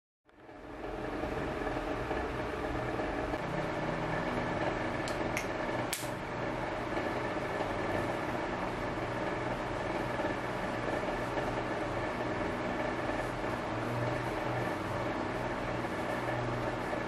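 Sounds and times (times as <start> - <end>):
small machine humming: 0.3 - 17.0.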